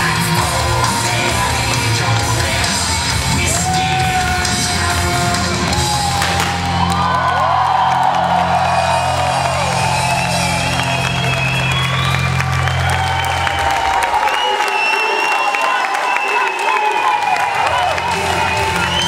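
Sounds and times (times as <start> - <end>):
crowd cheering and applauding: 0.0 - 19.0.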